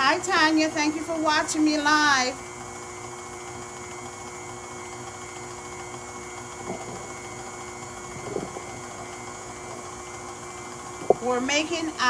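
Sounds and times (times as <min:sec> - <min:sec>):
stand mixer churning batter: 0:00.0 - 0:12.0.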